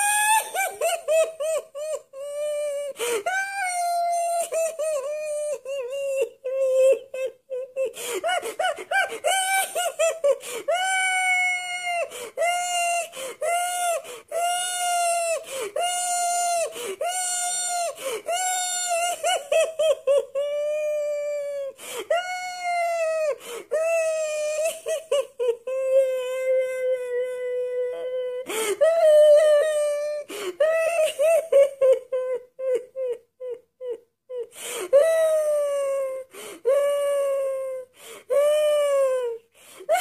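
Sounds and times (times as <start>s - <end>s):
man wailing like a baby: 0.0s - 40.0s.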